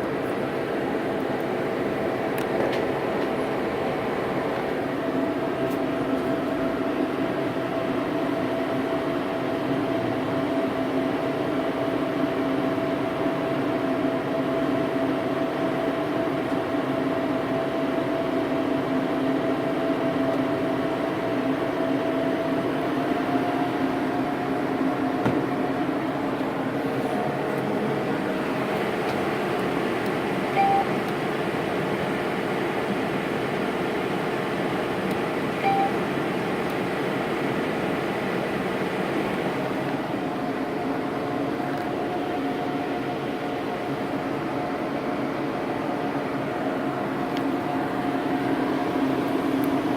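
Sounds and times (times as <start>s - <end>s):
machine whir and hum: 0.0s - 49.9s.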